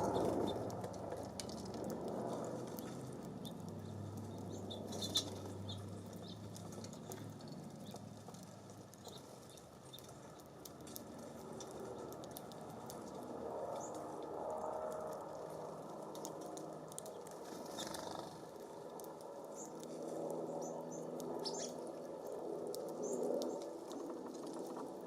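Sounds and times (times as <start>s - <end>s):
birds pecking seeds: 0.0s - 25.0s
low breezy rumble: 0.0s - 25.0s
wings fluttering: 0.0s - 25.0s.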